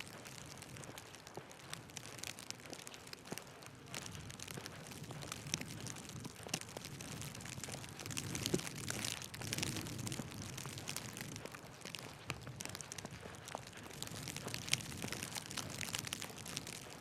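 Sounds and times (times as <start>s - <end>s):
light crackling and ticking: 0.0s - 17.0s.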